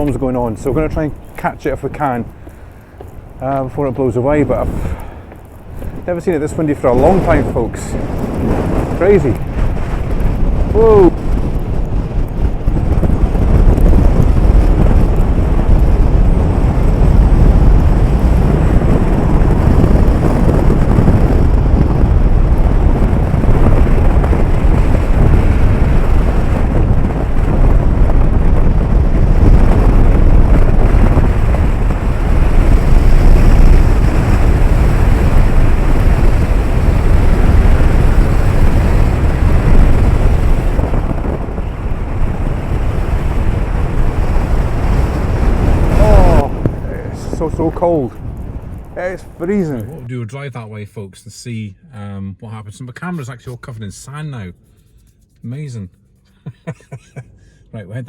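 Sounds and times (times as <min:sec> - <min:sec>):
strong wind buffeting microphone: 0:00.0 - 0:50.1.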